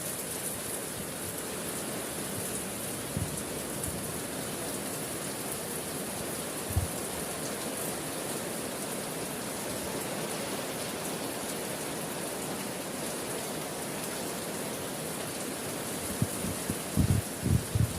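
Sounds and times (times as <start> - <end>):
steady rain falling: 0.0 - 17.9.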